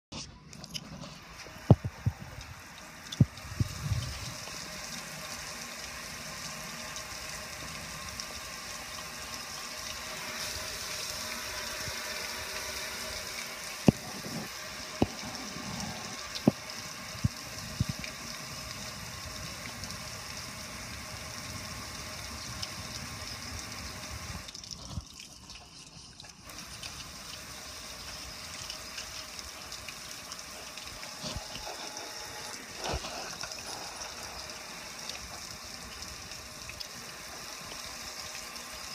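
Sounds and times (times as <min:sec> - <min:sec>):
water spraying on metal grill: 0:01.0 - 0:38.9.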